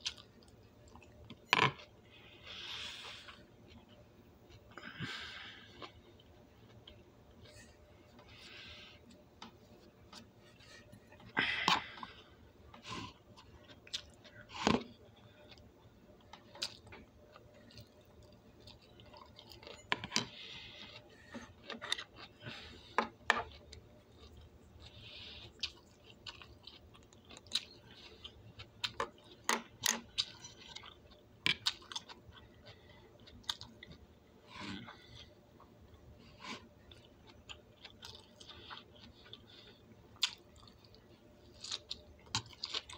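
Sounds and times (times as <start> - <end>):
person chewing crunchy vegetables: 0.0 - 42.9.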